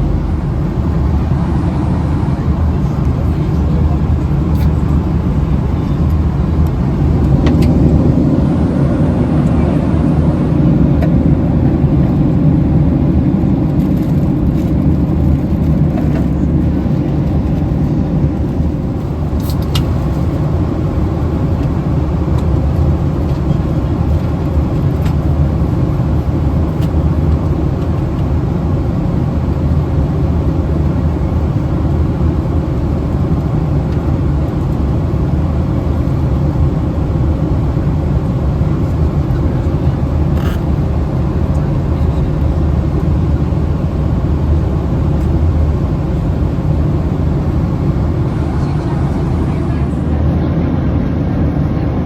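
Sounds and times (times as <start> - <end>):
vehicle rumble from inside: 0.0 - 52.0.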